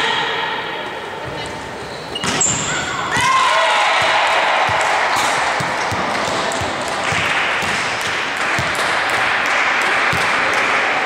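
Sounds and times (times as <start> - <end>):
sports hall noise: 0.0 - 11.0.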